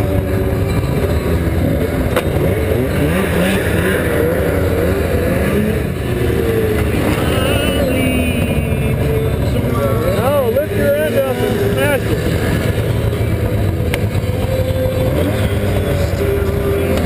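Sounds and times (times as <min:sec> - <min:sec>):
snowmobile engines idling and blipping: 0:00.0 - 0:17.0.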